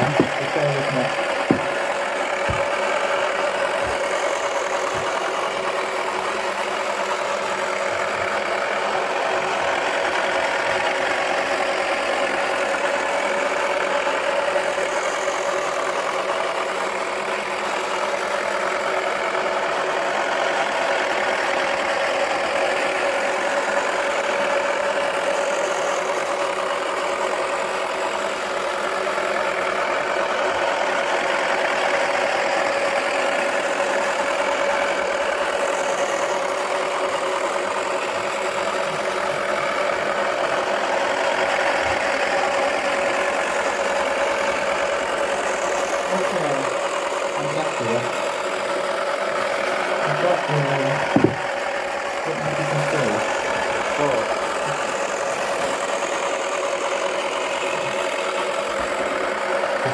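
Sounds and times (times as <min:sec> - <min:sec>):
toy motor whirring: 0:00.0 - 0:59.9.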